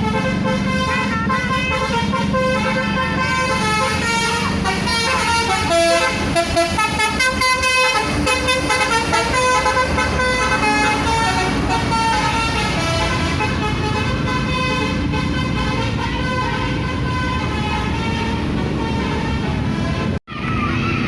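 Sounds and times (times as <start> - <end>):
bus horn playing a tune: 0.0 - 20.2
bus engine: 0.0 - 21.0.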